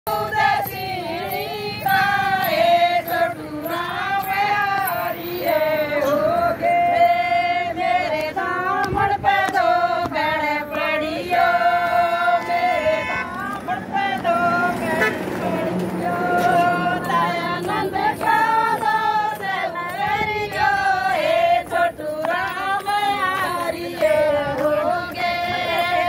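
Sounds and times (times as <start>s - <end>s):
group of women singing folk song: 0.1s - 26.0s.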